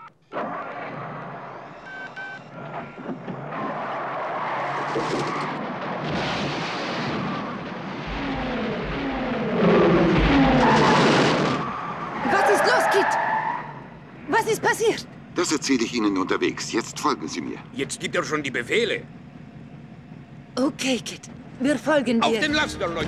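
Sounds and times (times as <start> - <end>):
car engine running hard: 0.4 - 23.0.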